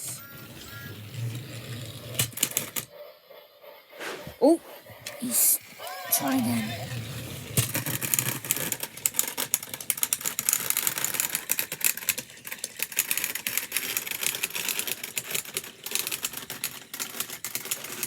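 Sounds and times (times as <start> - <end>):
toy train motors clicking and rattling: 0.0 - 3.9, 4.6 - 18.0.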